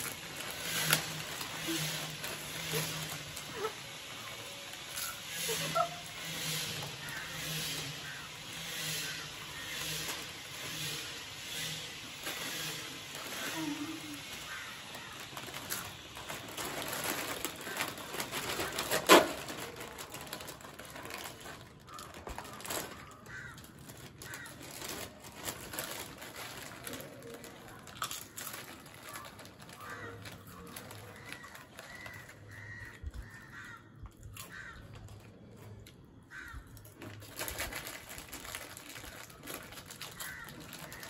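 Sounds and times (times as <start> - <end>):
chip packets crinkling: 0.0 - 41.0
chips being crunched: 0.0 - 41.0.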